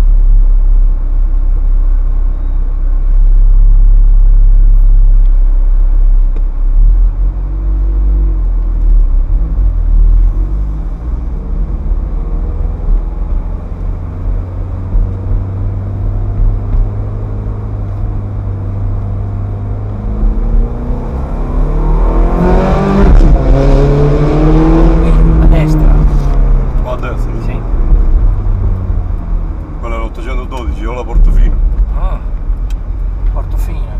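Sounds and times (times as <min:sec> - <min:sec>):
car engine cruising and accelerating: 0:00.0 - 0:33.9.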